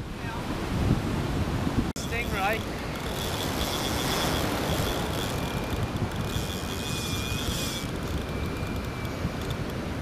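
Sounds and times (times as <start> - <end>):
surf on beach: 0.0 - 10.0
wind buffeting microphone: 0.0 - 10.0.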